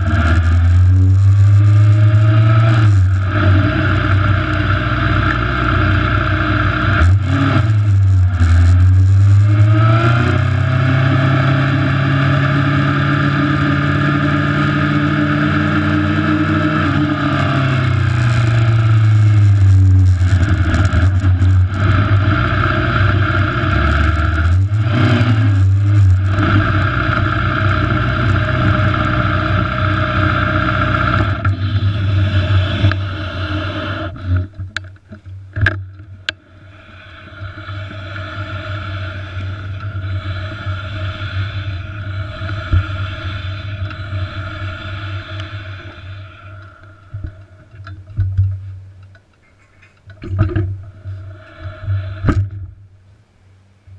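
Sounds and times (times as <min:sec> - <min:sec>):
vehicle engine running: 0:00.0 - 0:49.0, 0:49.6 - 0:53.9.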